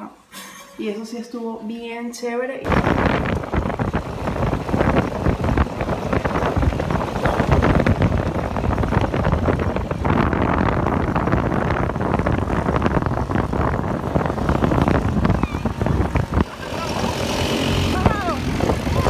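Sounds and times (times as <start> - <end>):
wind buffeting microphone: 2.6 - 19.0
dune buggy engine running: 2.7 - 19.0.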